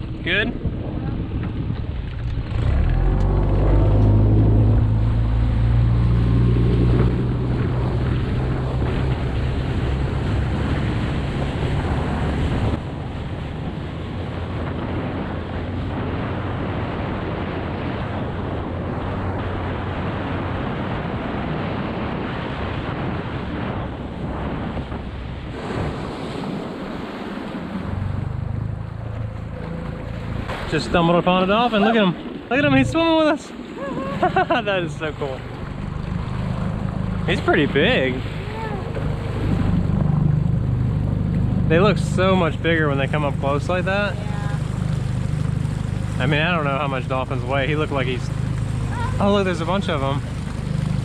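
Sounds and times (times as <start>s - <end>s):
outboard motor humming: 0.0s - 51.0s
water rushing along hull: 0.0s - 51.0s
wind buffeting microphone: 0.0s - 51.0s.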